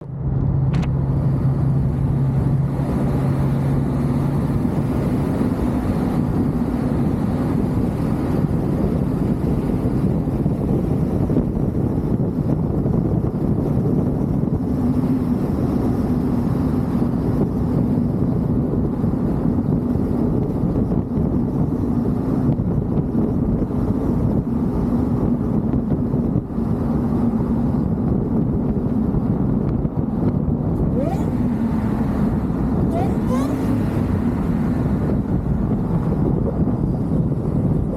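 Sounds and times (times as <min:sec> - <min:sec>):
engine drone: 0:00.0 - 0:37.9
wind noise on microphone: 0:00.0 - 0:37.9.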